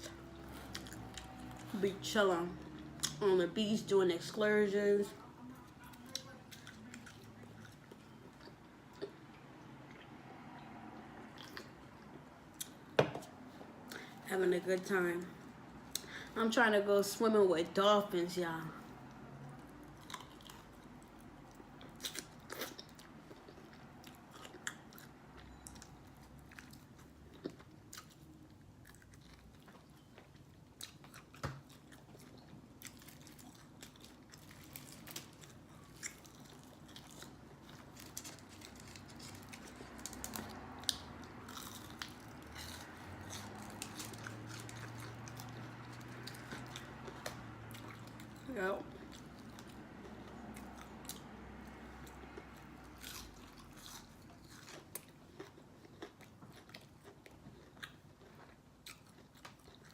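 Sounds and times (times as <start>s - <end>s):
crunchy chewing of fried food: 0.0s - 3.2s, 5.1s - 14.2s, 18.9s - 59.9s.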